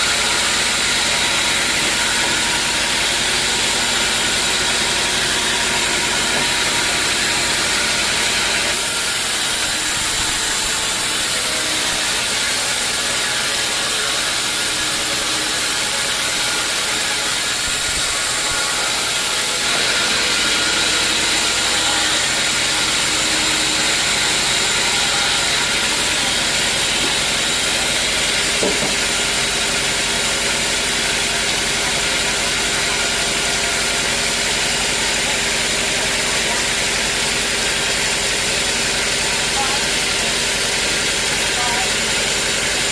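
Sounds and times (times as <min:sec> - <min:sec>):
sawmill motor drone with hiss: 0:00.0 - 0:42.9.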